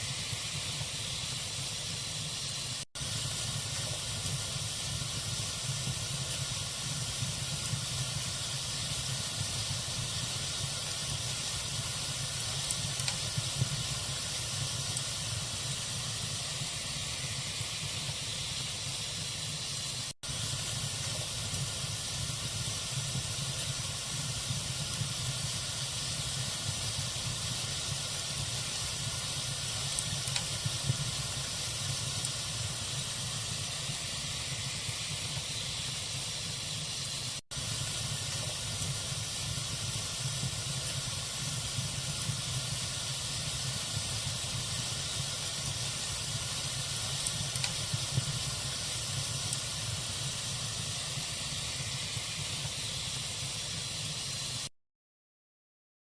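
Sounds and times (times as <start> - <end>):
log fire hissing and crackling: 0.0 - 54.7.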